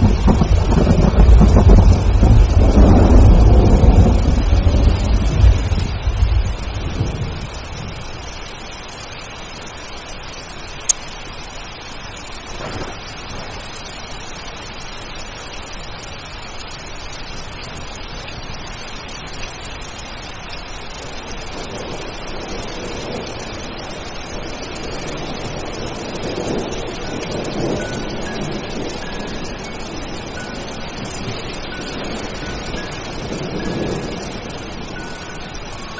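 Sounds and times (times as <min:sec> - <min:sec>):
steady rain hiss: 0:00.0 - 0:35.9.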